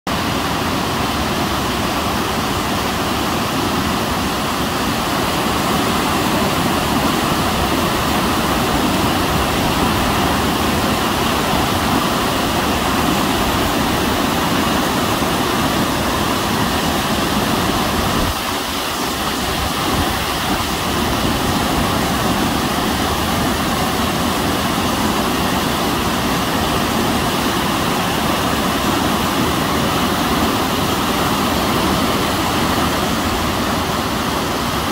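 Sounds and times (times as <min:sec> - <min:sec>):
water rushing over dam spillway: 0:00.1 - 0:34.9.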